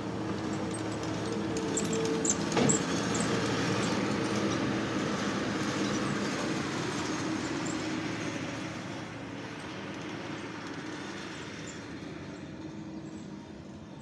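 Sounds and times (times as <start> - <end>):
skid steer engine running: 0.0 - 14.0.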